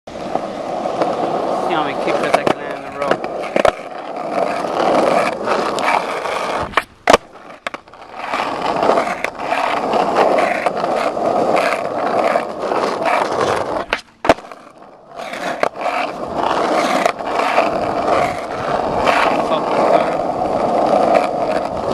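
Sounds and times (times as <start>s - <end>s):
skateboard clacking: 0.1s - 21.9s
skateboard wheels rolling on pavement: 0.1s - 21.9s.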